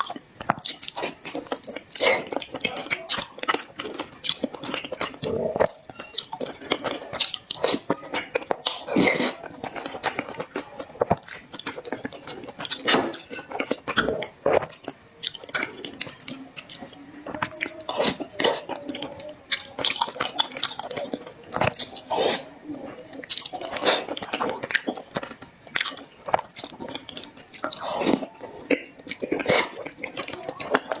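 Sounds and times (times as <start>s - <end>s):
chewing and biting food: 0.0s - 31.0s.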